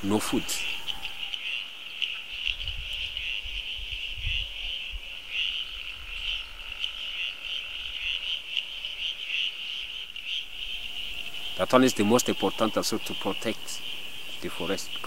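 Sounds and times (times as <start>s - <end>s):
night chorus: 0.0s - 2.6s, 4.4s - 15.0s
tree frog calling: 0.0s - 15.0s.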